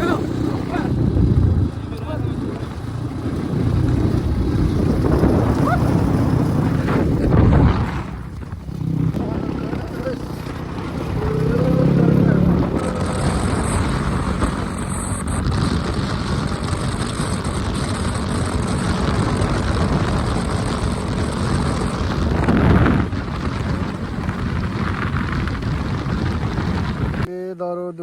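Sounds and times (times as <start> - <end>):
motorbike engine: 0.0 - 27.3
road noise: 0.0 - 27.3.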